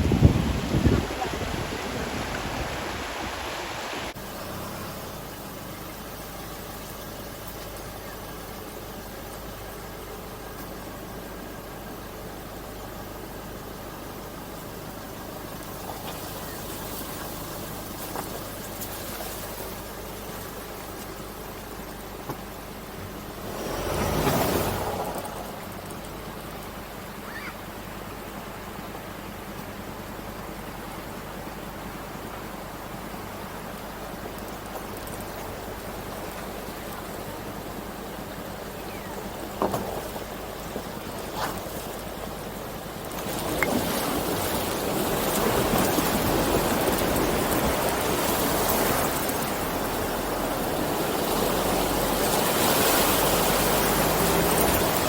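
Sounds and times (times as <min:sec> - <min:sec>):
flowing river water: 0:00.0 - 0:55.0
vehicle engine running low revs: 0:00.0 - 0:55.0.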